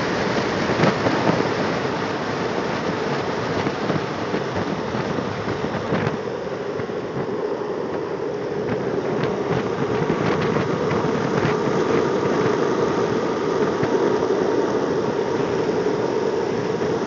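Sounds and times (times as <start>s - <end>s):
skateboard wheels rolling on asphalt: 0.0s - 17.0s.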